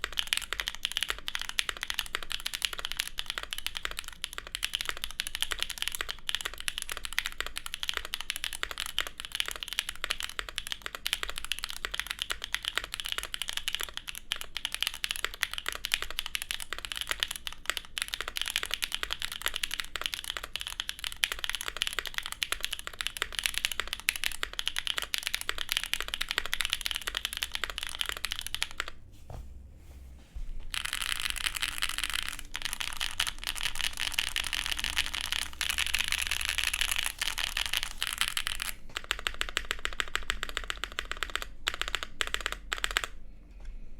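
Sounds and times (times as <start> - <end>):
fast mechanical keyboard typing: 0.0 - 29.0, 30.7 - 43.2.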